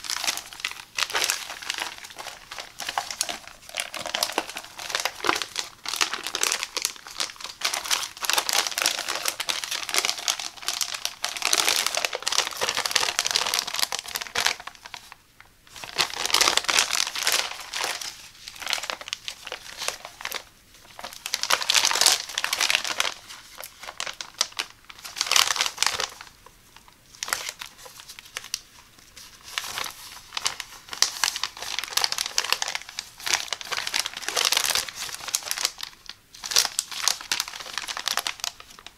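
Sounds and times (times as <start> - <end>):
plastic bags crinkling and rustling: 0.0 - 38.9.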